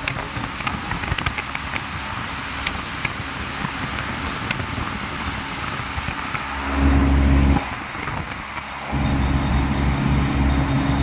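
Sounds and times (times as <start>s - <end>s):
air conditioner fan blowing: 0.0s - 11.0s
deep electrical hum: 0.0s - 11.0s.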